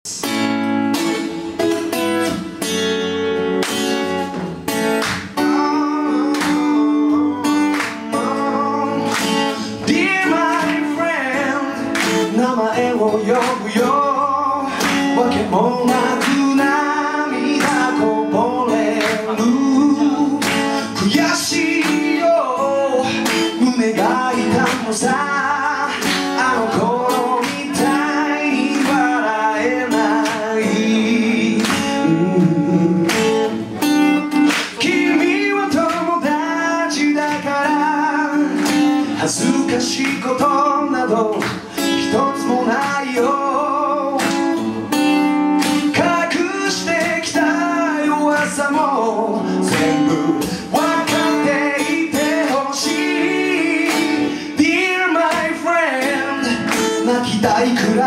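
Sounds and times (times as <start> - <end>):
man singing: 0.0 - 1.4, 5.2 - 58.0
strummed acoustic guitar: 0.1 - 58.0.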